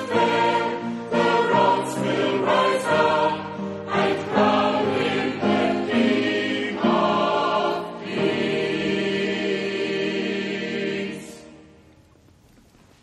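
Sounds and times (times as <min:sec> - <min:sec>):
choir singing: 0:00.0 - 0:11.9.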